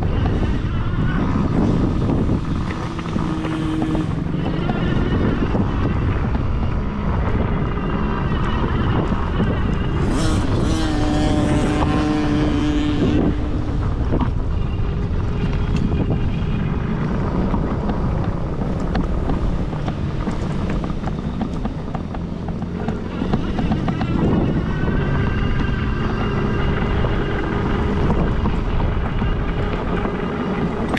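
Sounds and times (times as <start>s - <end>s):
dirt bike engines racing: 0.0s - 30.9s
wind buffeting microphone: 0.0s - 30.9s.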